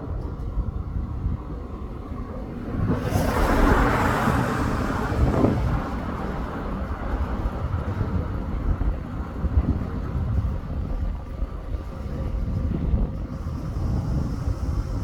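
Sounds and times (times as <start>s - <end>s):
electric train running past: 0.0s - 15.0s
wind buffeting microphone: 0.0s - 15.0s.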